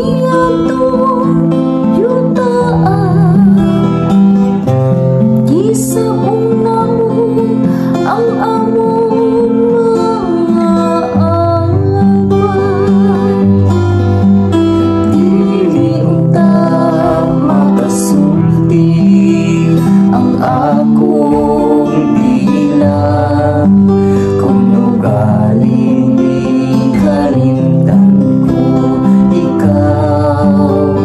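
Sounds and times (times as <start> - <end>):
woman singing: 0.0 - 4.6, 5.4 - 31.0
acoustic guitar: 0.0 - 31.0.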